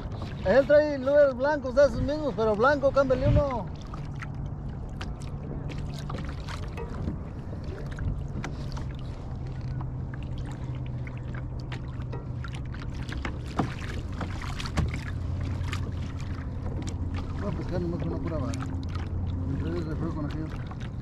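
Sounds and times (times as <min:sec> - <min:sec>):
water lapping against kayak hull: 0:00.0 - 0:21.0
steady low hum: 0:01.3 - 0:21.0.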